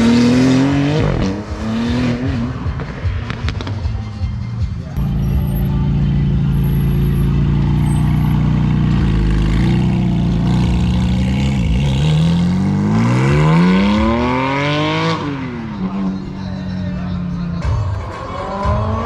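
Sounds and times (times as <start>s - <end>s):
car engine revving: 0.0s - 3.8s, 5.0s - 19.0s.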